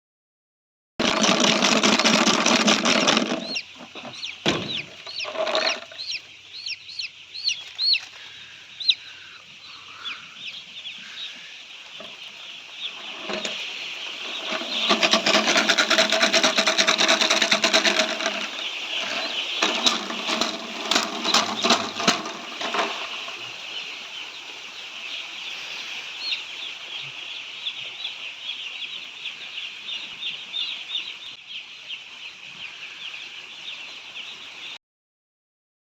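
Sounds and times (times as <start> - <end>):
chicks peeping: 1.0 - 34.8.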